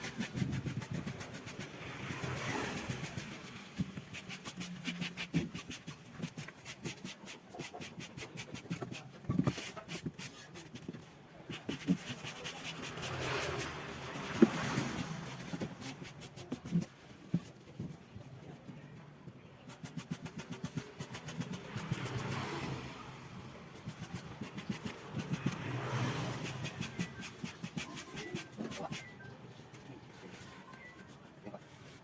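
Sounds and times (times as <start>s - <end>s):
rubbing or scraping: 0.0s - 18.8s, 19.6s - 32.0s.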